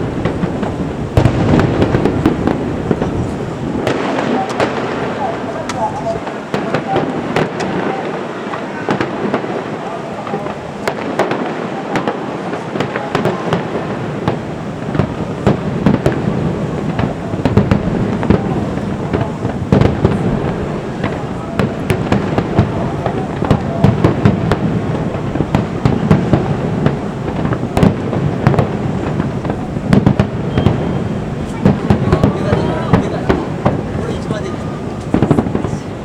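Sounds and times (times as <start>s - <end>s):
continuous rumbling din: 0.0s - 36.0s
fireworks bangs and crackles: 0.0s - 36.0s.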